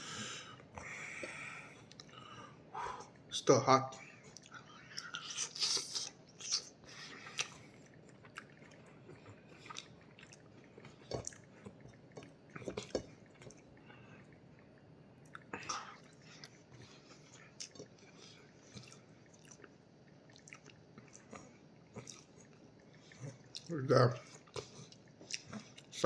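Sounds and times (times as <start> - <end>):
person chewing food: 0.0 - 3.3, 4.0 - 26.0.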